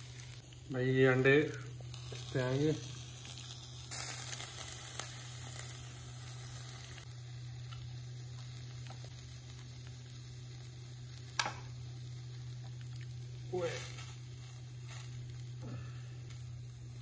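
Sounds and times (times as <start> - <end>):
food sizzling in oil: 0.0 - 17.0
steady low hum: 0.0 - 17.0.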